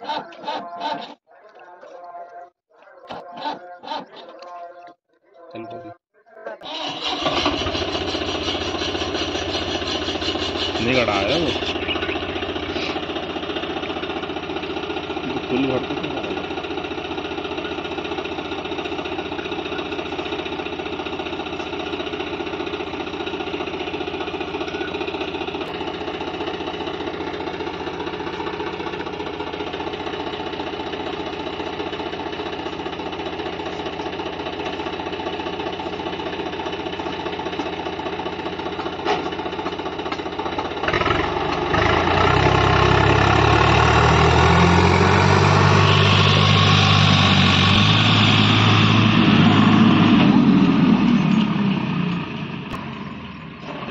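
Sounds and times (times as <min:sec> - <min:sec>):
tractor diesel engine idling: 0:06.6 - 0:53.9
tractor engine revving: 0:06.6 - 0:53.9.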